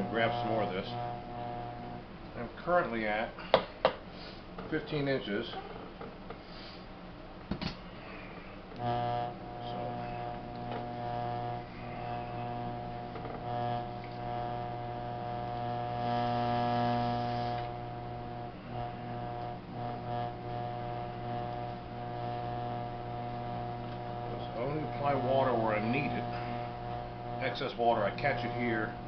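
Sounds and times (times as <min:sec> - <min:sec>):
potter's wheel motor humming: 0:00.0 - 0:07.4, 0:08.0 - 0:29.0.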